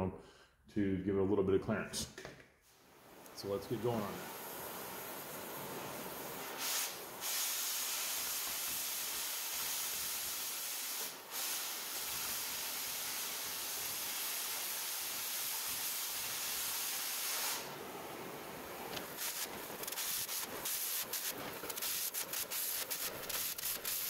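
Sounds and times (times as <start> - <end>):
cutting torch hissing: 2.8 - 24.0.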